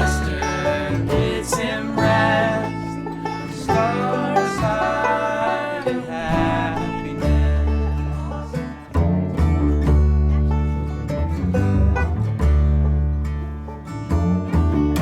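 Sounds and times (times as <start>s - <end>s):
banjo: 0.0s - 15.0s
bluegrass band playing: 0.0s - 15.0s
deep held bass notes: 0.0s - 15.0s.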